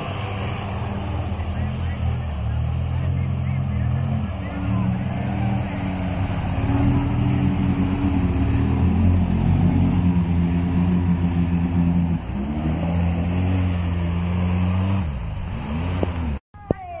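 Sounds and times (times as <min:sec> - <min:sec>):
racing engine at high revs: 0:00.0 - 0:16.4.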